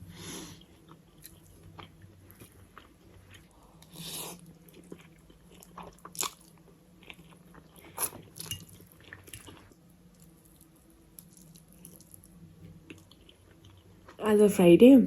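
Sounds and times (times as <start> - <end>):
chewing with crunchy bites: 0.5 - 14.2.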